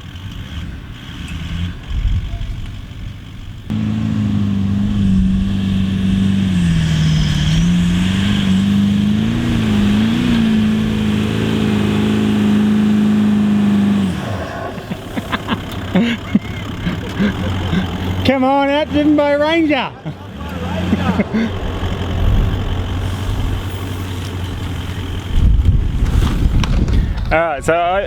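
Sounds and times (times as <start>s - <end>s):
engine revving hard in sand: 0.0s - 2.4s, 3.7s - 26.6s.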